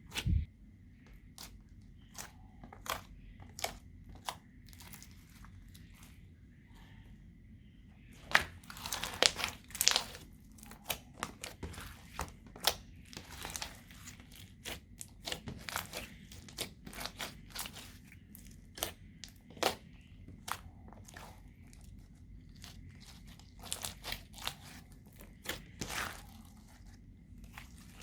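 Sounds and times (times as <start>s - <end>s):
slime being squished by hand: 1.3s - 6.1s, 8.2s - 28.0s.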